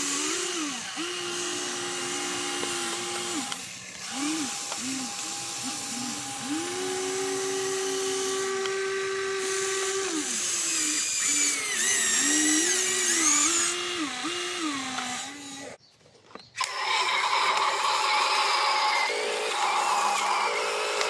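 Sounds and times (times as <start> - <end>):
electric motors whining: 0.0 - 15.8, 16.6 - 21.0.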